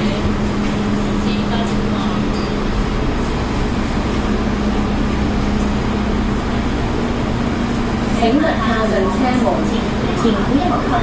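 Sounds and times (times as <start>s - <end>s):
train mechanical hum: 0.0s - 11.0s.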